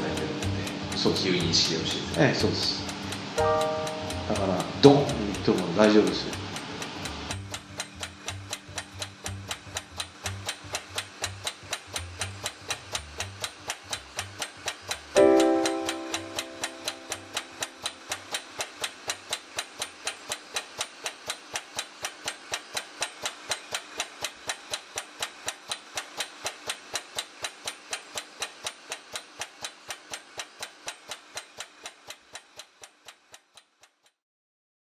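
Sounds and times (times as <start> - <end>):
testing rig mechanical clicking: 0.0 - 33.8.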